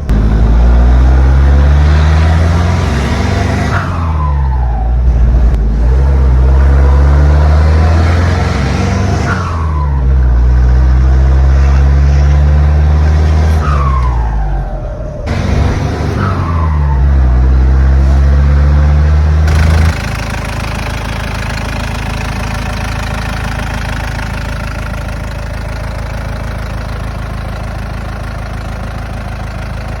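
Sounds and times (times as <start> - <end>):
diesel engine revving and idling: 0.0 - 30.0
engine whine: 0.0 - 30.0.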